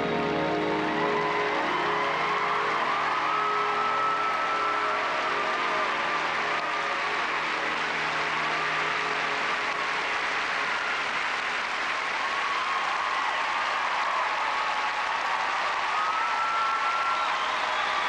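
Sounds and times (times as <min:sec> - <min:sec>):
audience applauding: 0:00.0 - 0:18.0
music: 0:00.0 - 0:18.0.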